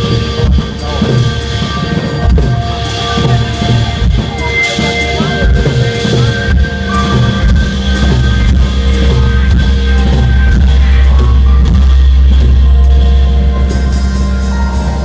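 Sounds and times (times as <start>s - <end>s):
drum and cymbal hits: 0.0s - 15.0s
heavy bass note: 0.0s - 15.0s
live band playing: 0.0s - 15.0s.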